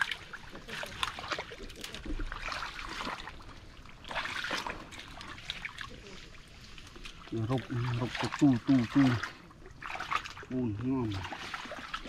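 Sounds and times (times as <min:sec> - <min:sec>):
mud and water squelching: 0:00.0 - 0:12.0.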